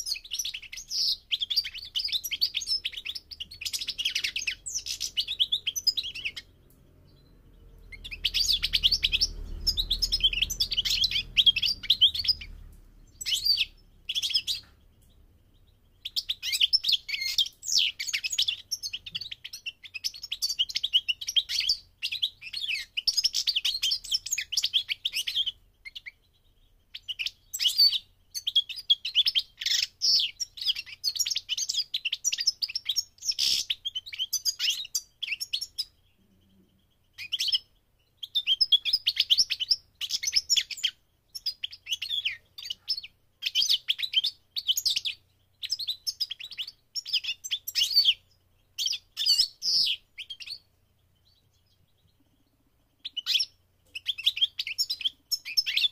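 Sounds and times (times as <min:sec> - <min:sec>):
goldfinch twittering song: 0:00.0 - 0:55.9.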